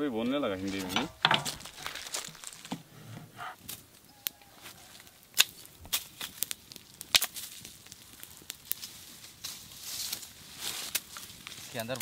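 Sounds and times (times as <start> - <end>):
kindling fire crackling: 0.0 - 12.0.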